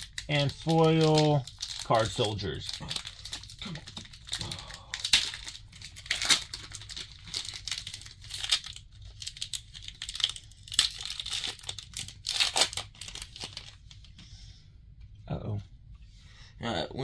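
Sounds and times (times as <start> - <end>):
foil wrappers crinkling: 0.0 - 14.0.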